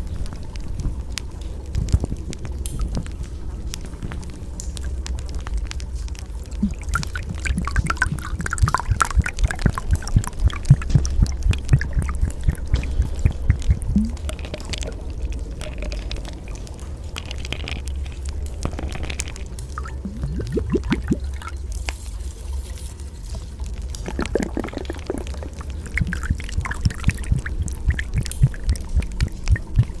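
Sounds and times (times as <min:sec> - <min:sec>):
rain water splashing and dripping: 0:00.0 - 0:30.0
steady low rumble: 0:00.0 - 0:30.0.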